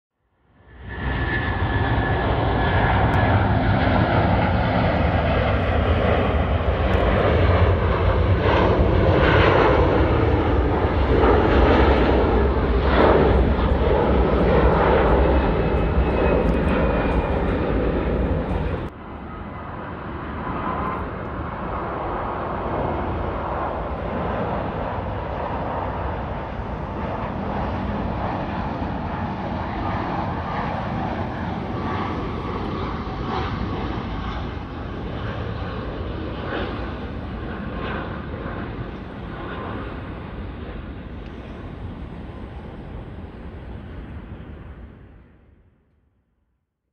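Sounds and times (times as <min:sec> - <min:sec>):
aircraft engine noise: 0:00.4 - 0:45.7
jet engine roar: 0:00.4 - 0:45.8.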